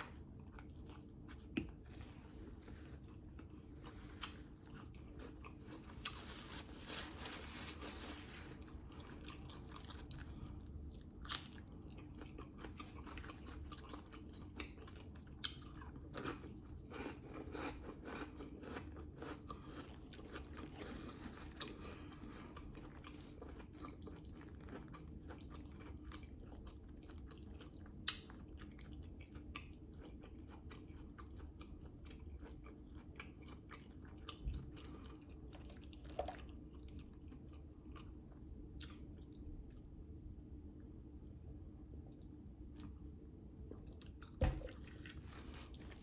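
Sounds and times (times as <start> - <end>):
person chewing food: 0.0 - 40.0, 41.8 - 46.0.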